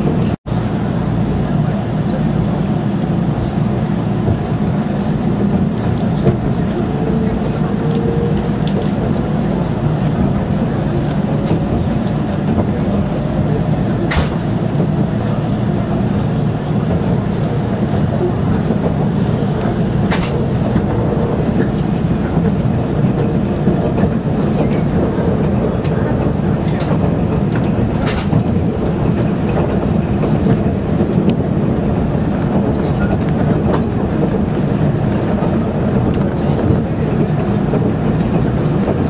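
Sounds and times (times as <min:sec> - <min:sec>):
train wheels rumbling on rails: 0:00.0 - 0:39.0
wheels clicking on track: 0:04.2 - 0:39.0.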